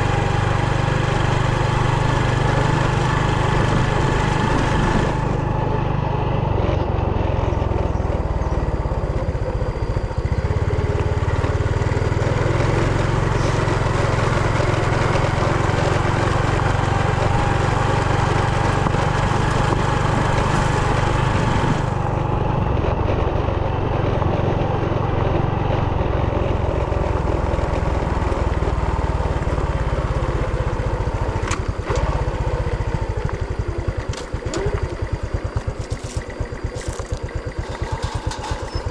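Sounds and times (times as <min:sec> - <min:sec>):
brush cutter engine running: 0:00.0 - 0:06.6, 0:10.1 - 0:27.4, 0:31.0 - 0:38.9.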